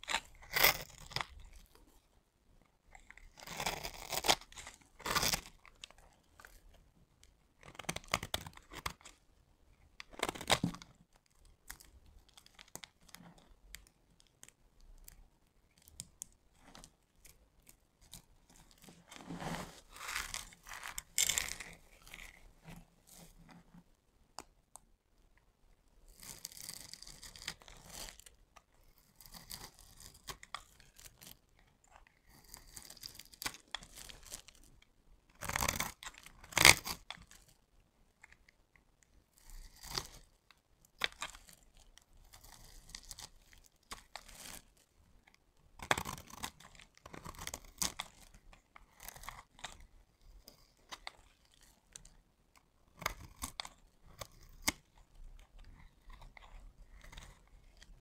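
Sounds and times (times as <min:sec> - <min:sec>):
knife scraping soap: 0:00.0 - 0:02.0, 0:02.6 - 0:09.2, 0:15.8 - 0:23.8, 0:26.1 - 0:37.6, 0:38.2 - 0:58.0.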